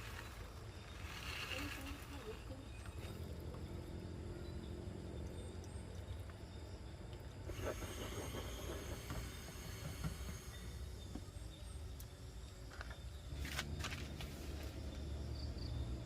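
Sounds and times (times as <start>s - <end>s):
faint high insect drone: 0.0s - 16.0s.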